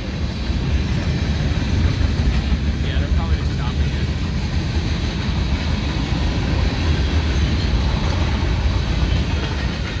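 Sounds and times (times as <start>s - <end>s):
freight train rolling past: 0.0s - 10.0s
wheel noise on rails: 0.0s - 10.0s.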